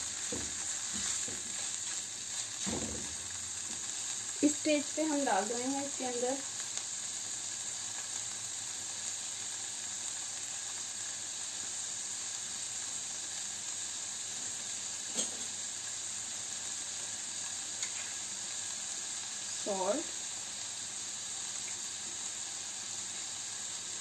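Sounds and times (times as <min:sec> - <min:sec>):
chicken sizzling in a frying pan: 0:00.0 - 0:24.0.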